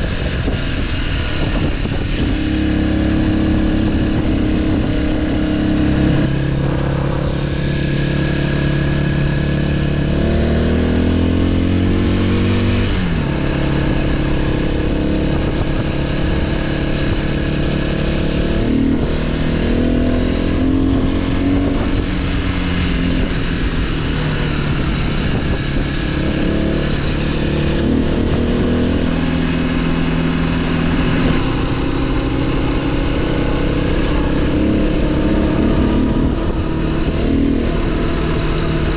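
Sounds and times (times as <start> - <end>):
motorcycle engine running: 0.0 - 38.9
steady rushing noise: 0.0 - 38.9.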